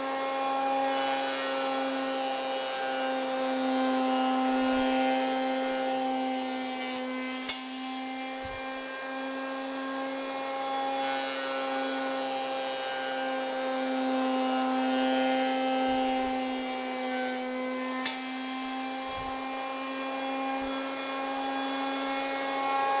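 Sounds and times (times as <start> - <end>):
knives planing a board: 0.0 - 23.0.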